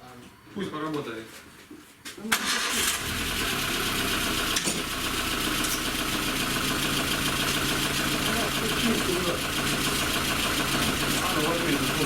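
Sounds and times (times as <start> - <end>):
car engine starting and idling: 2.3 - 12.0.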